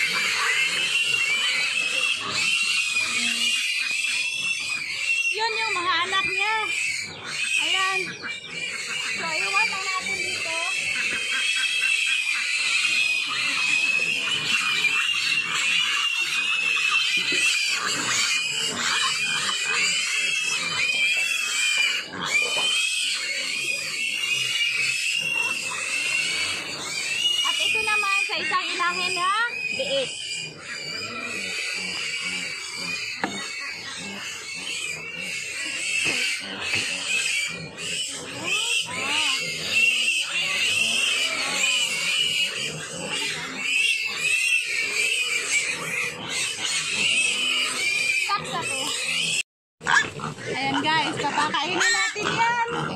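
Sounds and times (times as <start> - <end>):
piglets squealing: 0.0 - 52.9.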